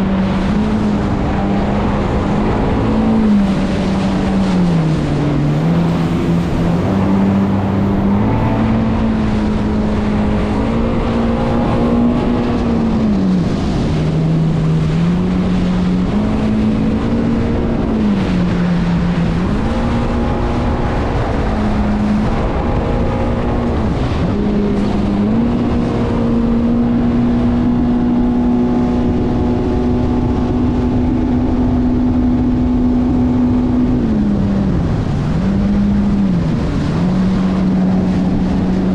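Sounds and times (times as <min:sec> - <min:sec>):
motorboat engine running: 0:00.0 - 0:38.9
steady rushing noise: 0:00.0 - 0:38.9.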